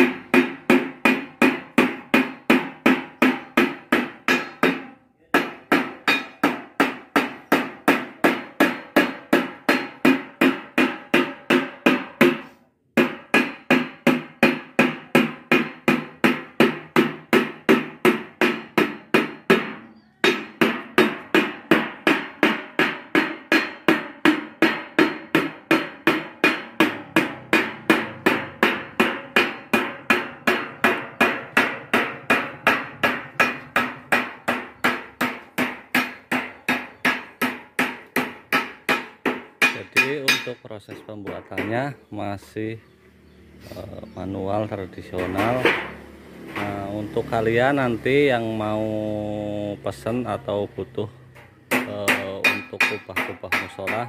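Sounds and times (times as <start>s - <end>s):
hammer ringing on sheet metal: 0.0s - 42.0s, 44.4s - 49.5s, 51.4s - 54.0s.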